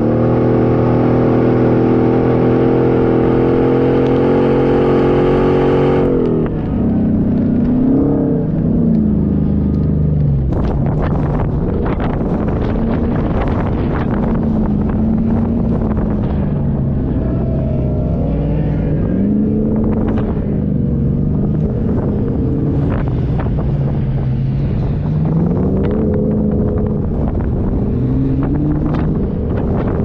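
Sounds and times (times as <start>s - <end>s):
off-road vehicle engine revving: 0.0s - 30.0s
wind buffeting microphone: 0.0s - 30.0s.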